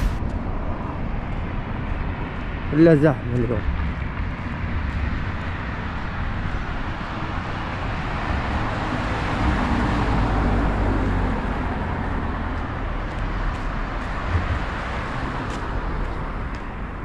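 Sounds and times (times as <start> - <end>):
passing cars tyre noise: 0.0 - 17.0.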